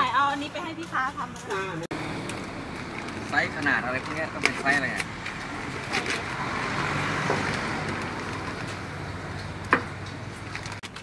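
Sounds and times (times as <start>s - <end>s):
road vehicle passing: 0.4s - 10.8s.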